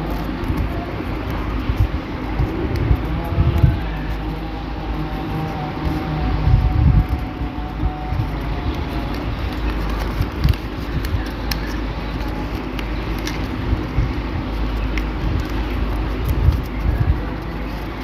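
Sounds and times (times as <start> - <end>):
paper being folded by hand: 0.0 - 18.0
paper crinkles and clicks: 0.0 - 18.0
steady low rumble: 0.0 - 18.0.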